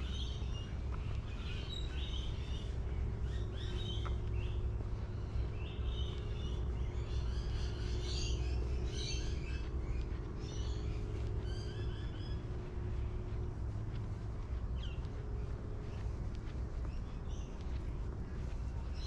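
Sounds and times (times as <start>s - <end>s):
birds chirping: 0.0s - 19.0s
low background rumble: 0.0s - 19.0s.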